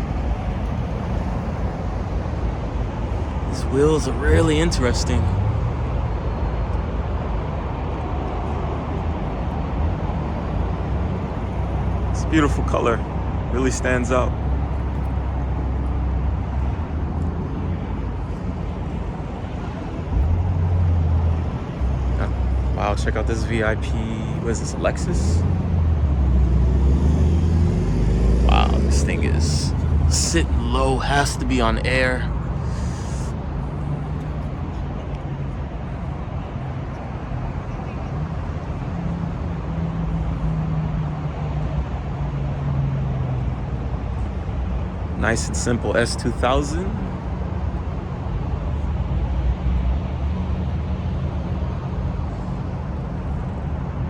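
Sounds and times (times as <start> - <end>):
car engine running at low revs: 0.0 - 54.0
traffic rumble: 0.0 - 54.0.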